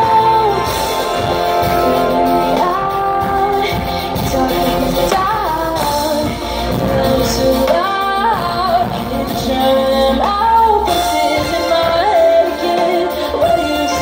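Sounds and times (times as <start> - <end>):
live pop band playing: 0.0 - 14.0
woman singing lead: 0.0 - 14.0.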